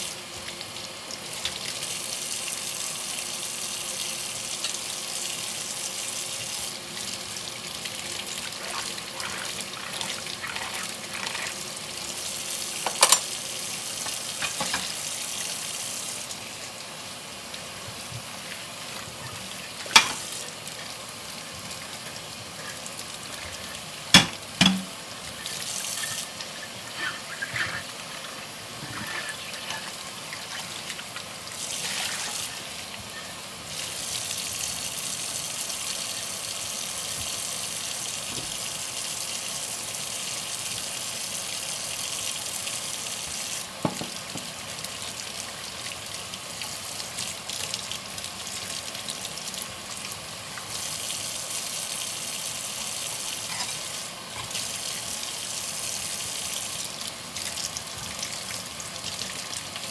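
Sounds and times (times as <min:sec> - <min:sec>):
tap water running into sink: 0:00.0 - 0:59.9.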